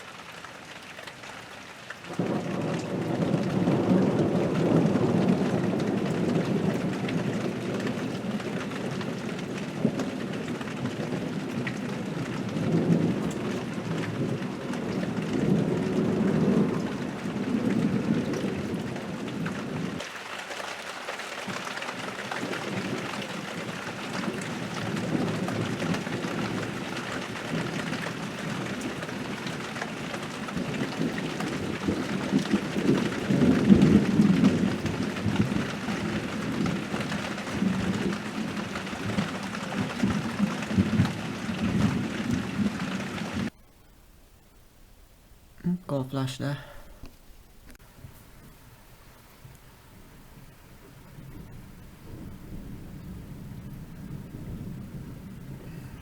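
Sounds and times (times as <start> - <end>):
heavy rain falling: 0.0 - 56.0
thunder rumbling: 2.1 - 20.1, 21.5 - 45.6, 46.2 - 56.0.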